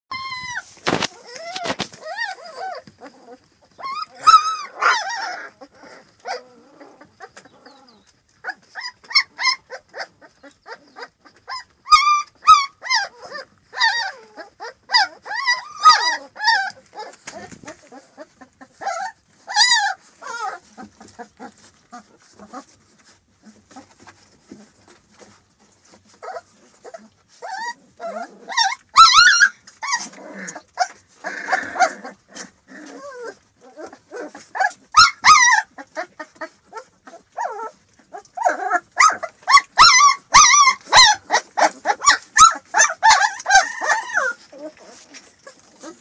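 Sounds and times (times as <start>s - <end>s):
puppies whining and yelping: 0.1s - 46.0s.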